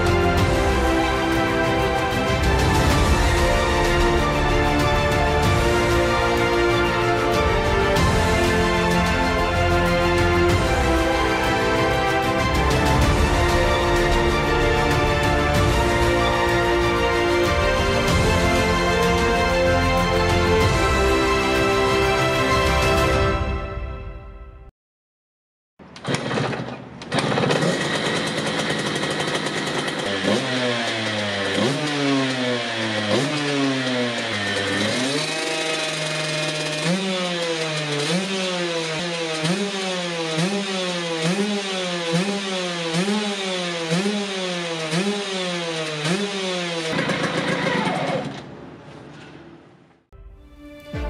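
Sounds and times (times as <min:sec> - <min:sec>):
two-stroke engine revving: 0:00.0 - 0:23.1, 0:25.9 - 0:48.8.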